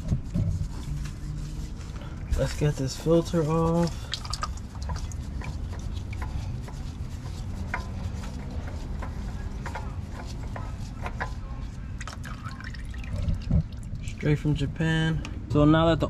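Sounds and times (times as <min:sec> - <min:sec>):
oil filter rubbing and clicking: 0:00.0 - 0:15.3.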